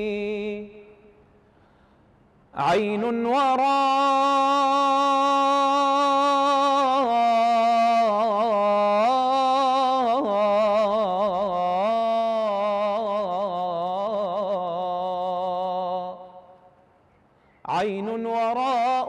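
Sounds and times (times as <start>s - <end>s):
man singing unaccompanied: 0.0s - 1.2s, 2.5s - 16.6s, 17.7s - 19.0s.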